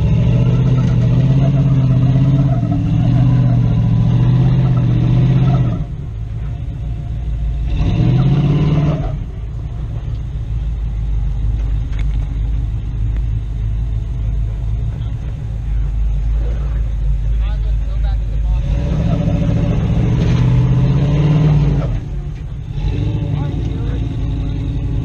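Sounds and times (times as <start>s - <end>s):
truck engine revving under load: 0.0s - 25.0s.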